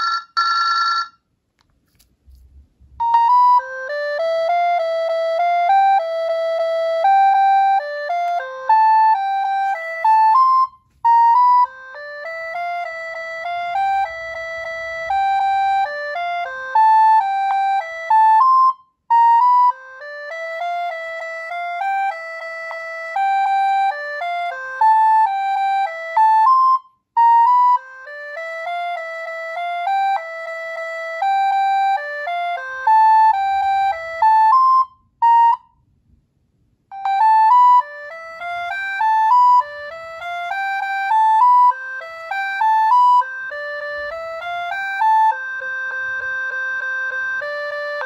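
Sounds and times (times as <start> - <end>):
mobile phone ringtone melody: 0.0 - 1.2, 3.0 - 35.8, 36.9 - 48.0.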